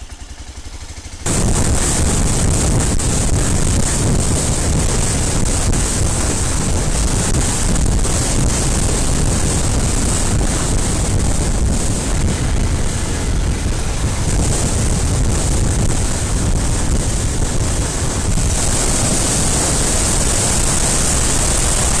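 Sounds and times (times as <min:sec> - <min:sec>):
road and engine rumble: 0:00.0 - 0:22.0
wind rushing over microphone: 0:01.2 - 0:22.0.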